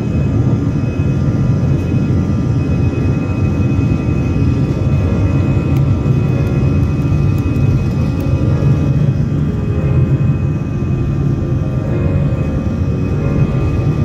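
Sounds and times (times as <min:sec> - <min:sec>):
airplane cabin rumble: 0:00.0 - 0:14.0
jet engines humming: 0:00.0 - 0:14.0.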